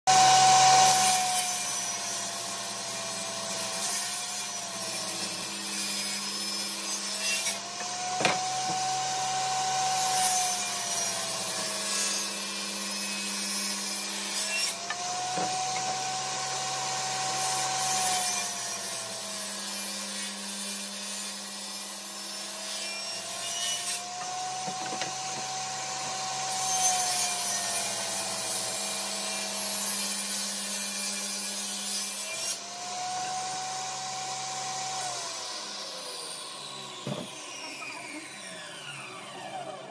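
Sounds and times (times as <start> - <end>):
table saw cutting wood: 0.1 - 39.9.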